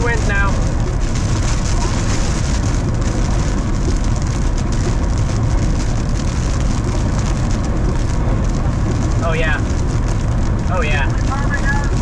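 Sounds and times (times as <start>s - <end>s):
gusting wind: 0.0s - 12.0s
heavy rain: 0.0s - 12.0s.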